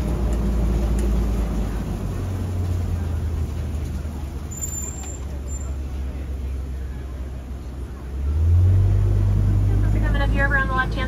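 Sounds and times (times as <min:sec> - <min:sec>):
truck engine hum: 0:00.0 - 0:11.0.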